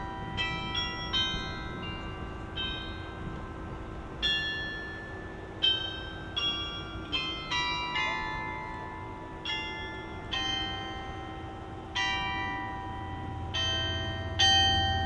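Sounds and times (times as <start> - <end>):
tower bells playing a slow tune: 0.0 - 15.0.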